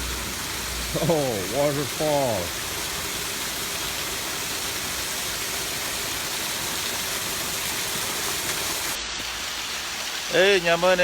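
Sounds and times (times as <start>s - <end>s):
water rushing over spillway: 0.0s - 11.0s.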